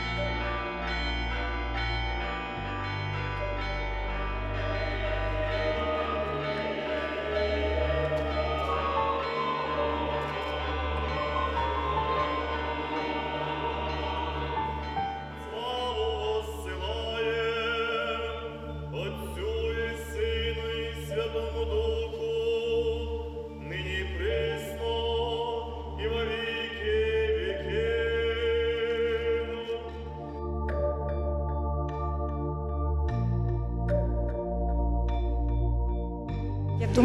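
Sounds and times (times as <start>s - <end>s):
choir singing: 0.0s - 31.6s, 36.8s - 37.0s
low drone: 0.0s - 37.0s.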